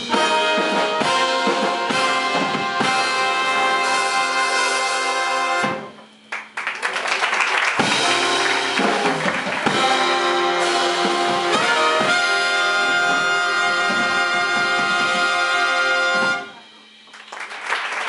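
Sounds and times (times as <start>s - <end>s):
big band playing live: 0.0s - 6.3s, 7.5s - 17.4s.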